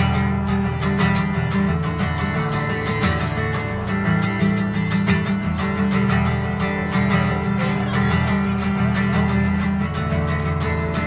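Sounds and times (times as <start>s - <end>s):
guitar strummed: 0.0s - 11.0s.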